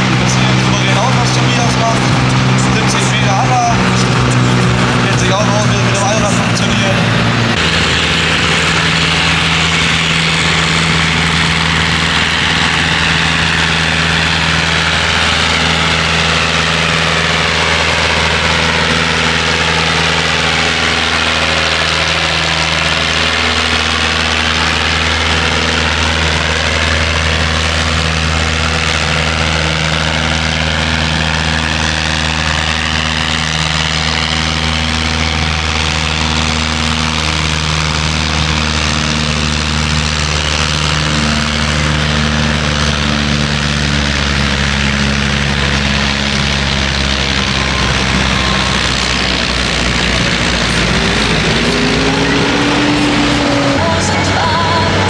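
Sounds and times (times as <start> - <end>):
high whine: 0.0 - 55.0
tractor engine running: 0.0 - 55.0.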